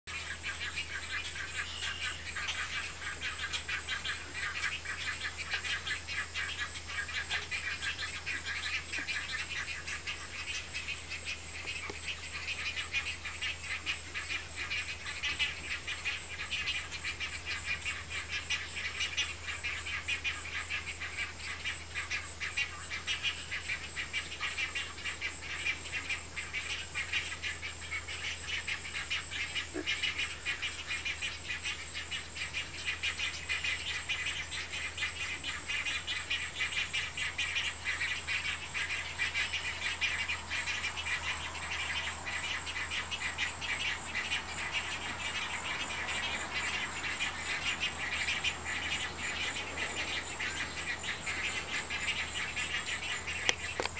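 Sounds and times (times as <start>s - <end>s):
high-pitched pulsing animal calls: 0.1s - 53.9s.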